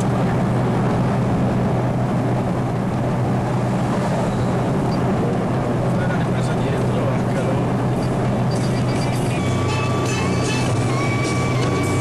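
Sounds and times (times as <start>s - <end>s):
car interior engine drone: 0.0s - 12.0s.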